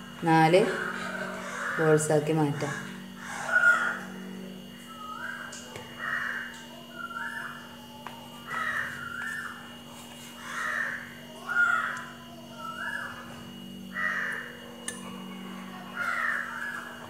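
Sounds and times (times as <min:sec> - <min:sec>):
steady low hum: 0:00.0 - 0:17.0
crows cawing: 0:00.5 - 0:07.7, 0:08.5 - 0:17.0.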